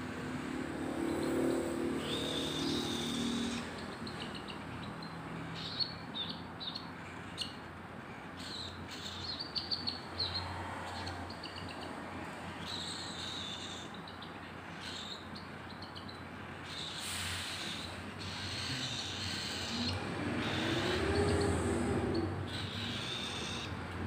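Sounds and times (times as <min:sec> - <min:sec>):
bird chick chirping: 0:02.0 - 0:07.7, 0:08.4 - 0:23.8.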